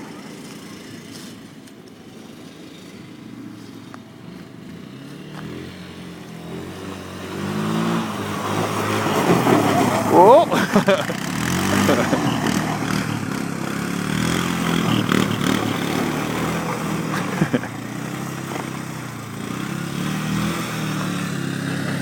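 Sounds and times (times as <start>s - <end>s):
utility vehicle engine revving: 2.4s - 22.0s.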